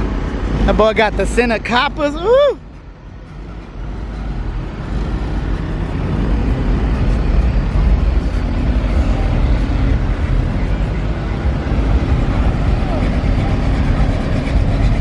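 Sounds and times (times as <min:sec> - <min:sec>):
car engine rumbling past: 0:02.6 - 0:15.0.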